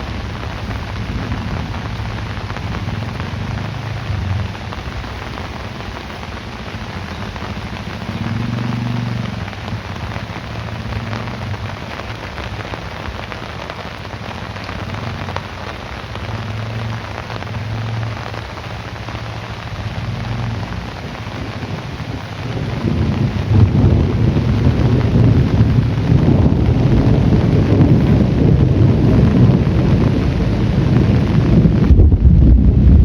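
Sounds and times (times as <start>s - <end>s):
heavy rain: 0.0s - 33.0s
thunder rumbling: 0.0s - 33.0s.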